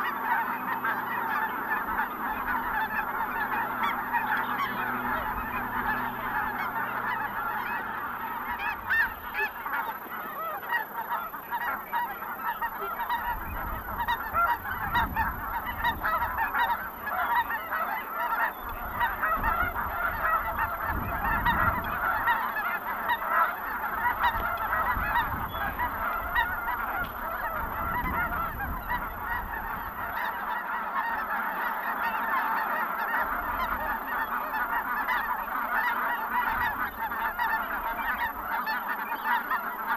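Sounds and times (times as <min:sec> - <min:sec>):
flock of geese calling: 0:00.0 - 0:39.9.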